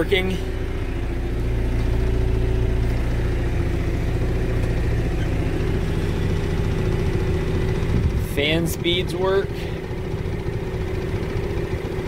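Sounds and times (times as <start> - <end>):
diesel engine idling: 0.0 - 12.0
heater blower fan: 0.0 - 12.0.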